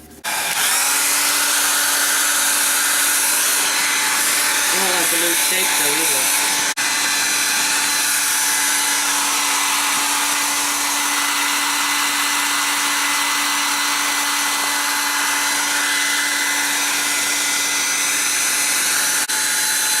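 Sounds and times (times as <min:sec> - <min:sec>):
electric blower running: 0:00.0 - 0:20.0.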